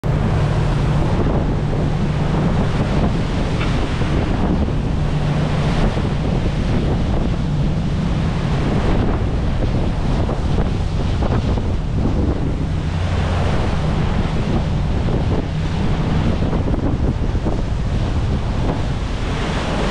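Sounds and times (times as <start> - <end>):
boat engine drone: 0.0 - 19.9
churning water rushing: 0.0 - 19.9
wind buffeting microphone: 0.0 - 19.9.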